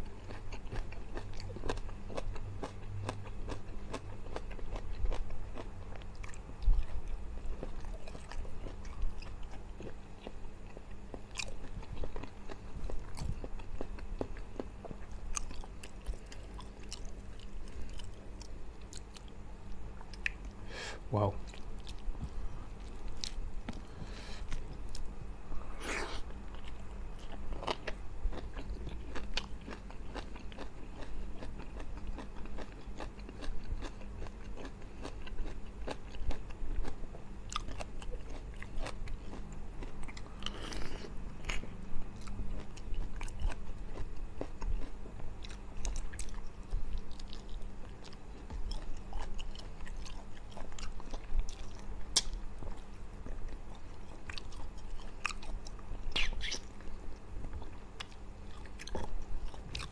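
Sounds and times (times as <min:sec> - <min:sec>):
person chewing: 0:00.0 - 0:20.6, 0:21.4 - 0:59.9.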